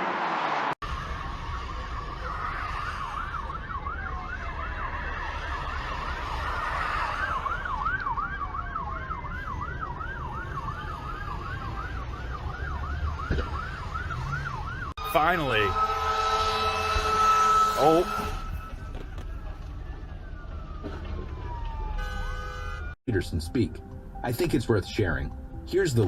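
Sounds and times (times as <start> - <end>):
road and engine rumble: 0.0 - 26.0
siren yelping: 0.8 - 23.0.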